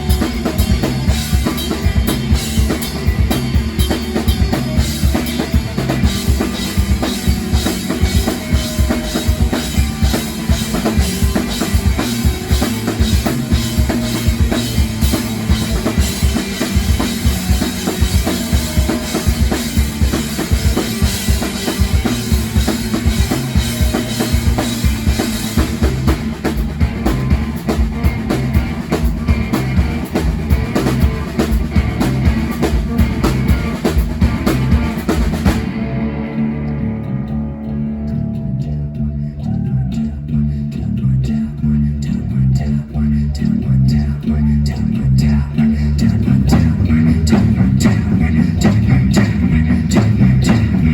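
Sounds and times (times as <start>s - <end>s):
bass drum and snare beat: 0.0s - 36.2s, 46.1s - 50.9s
rock band playing: 0.0s - 39.9s, 46.1s - 50.9s.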